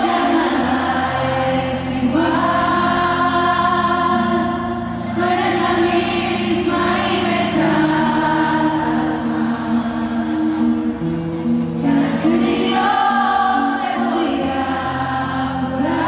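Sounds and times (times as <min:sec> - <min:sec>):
woman singing into a microphone: 0:00.0 - 0:10.9, 0:11.8 - 0:16.0
amplified acoustic guitar: 0:00.0 - 0:16.0.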